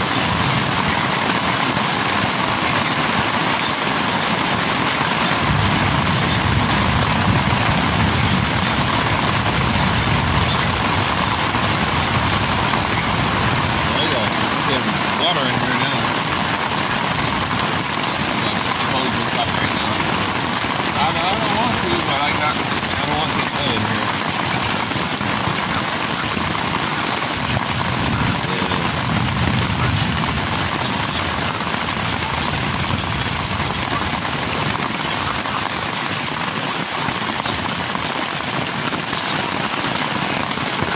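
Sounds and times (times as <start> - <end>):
heavy rain on tent fabric: 0.0 - 40.9.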